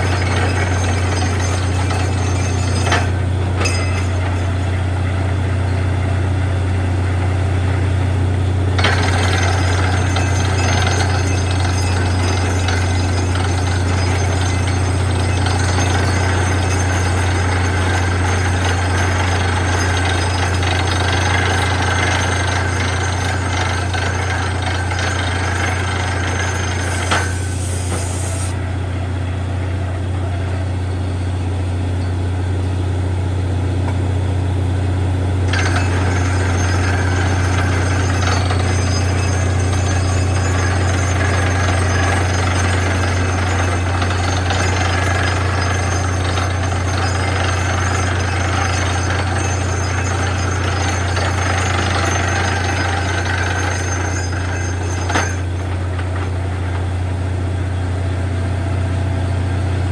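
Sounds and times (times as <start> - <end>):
drilling rattle: 0.0 - 6.3, 8.4 - 28.6, 35.3 - 57.4
drilling rig engine drone: 0.0 - 59.9.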